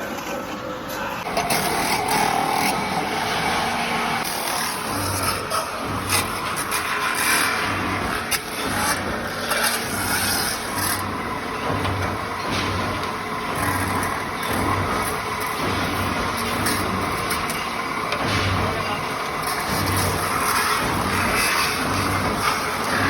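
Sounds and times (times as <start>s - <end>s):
tool scraping spinning metal: 1.2s - 23.0s.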